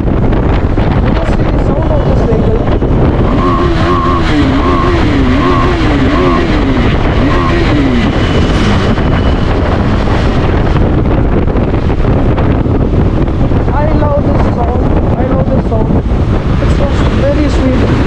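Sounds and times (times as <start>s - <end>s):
motorcycle engine revving: 0.0s - 18.0s
wind rush on microphone: 0.0s - 18.0s.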